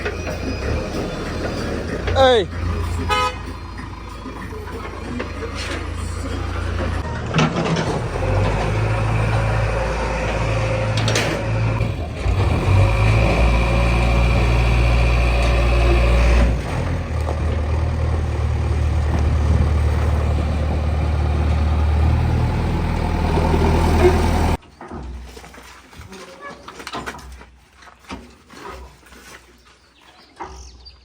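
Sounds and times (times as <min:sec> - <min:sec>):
diesel digger engine rumbling: 0:00.0 - 0:25.2.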